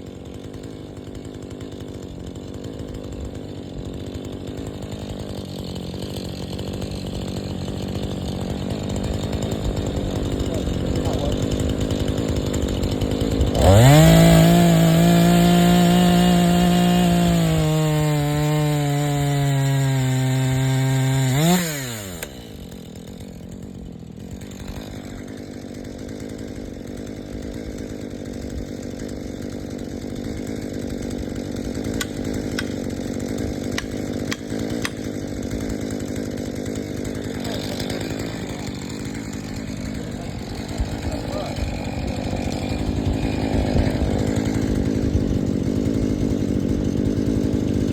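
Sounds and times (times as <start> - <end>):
chainsaw revving and cutting wood: 0.0 - 47.9.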